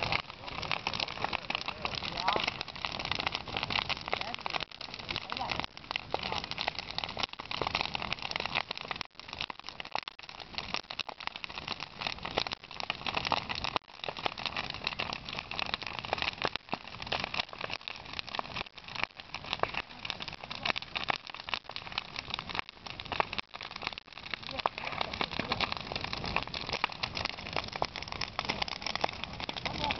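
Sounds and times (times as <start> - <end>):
bonfire crackling and popping: 0.0 - 29.9.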